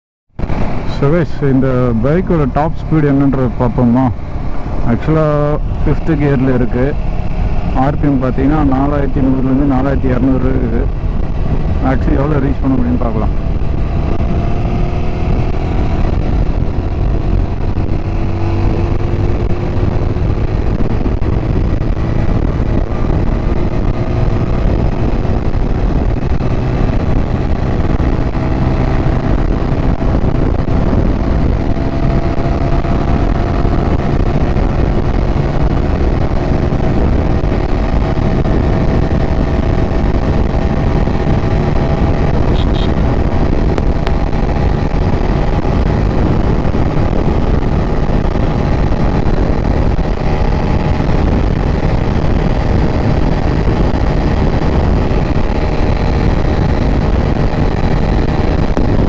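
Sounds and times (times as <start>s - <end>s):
motorcycle engine accelerating: 0.3s - 59.0s
wind rush on microphone: 0.4s - 59.0s.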